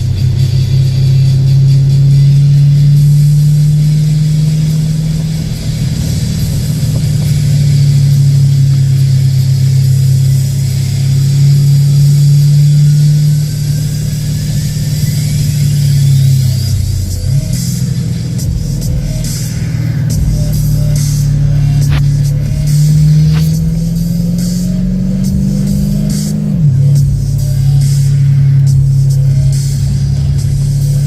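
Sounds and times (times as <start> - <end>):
faint whine rising in pitch: 0.0 - 31.0
vehicle engine running hard: 0.0 - 31.0.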